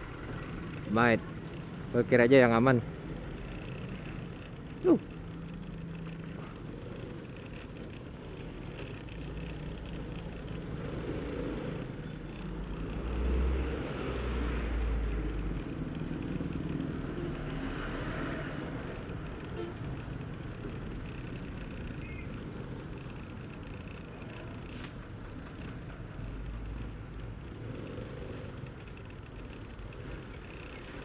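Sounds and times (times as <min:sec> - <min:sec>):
motorcycle engine hum: 0:00.0 - 0:31.0
trucks rumbling: 0:00.0 - 0:31.0.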